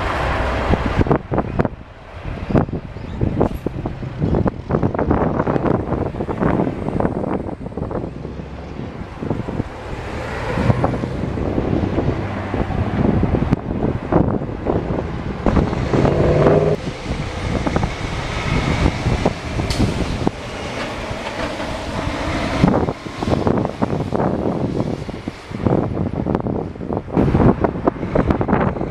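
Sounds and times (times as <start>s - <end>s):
diesel engine drone: 0.0s - 28.6s.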